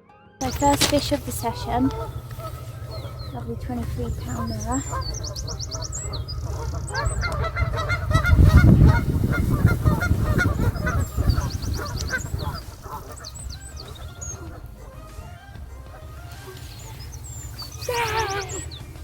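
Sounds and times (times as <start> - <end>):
small bird trilling: 0.4 - 15.4, 16.5 - 19.0
geese honking: 0.4 - 19.0
low rumbling noise: 0.4 - 19.0.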